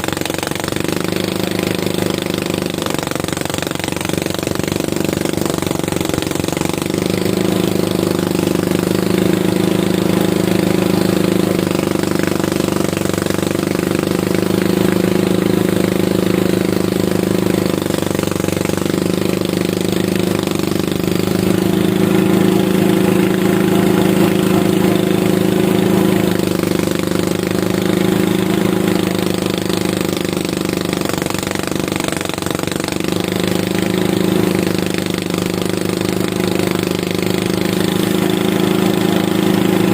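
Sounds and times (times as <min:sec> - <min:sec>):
harvesting machine engine droning: 0:00.0 - 0:39.9.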